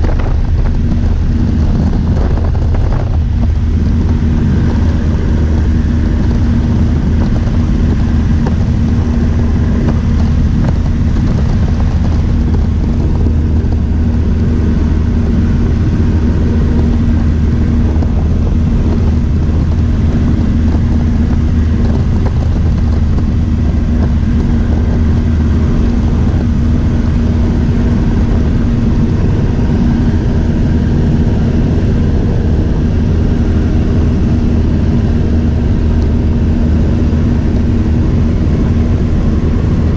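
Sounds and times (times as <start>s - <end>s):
light airplane engine drone in cabin: 0.0s - 39.9s.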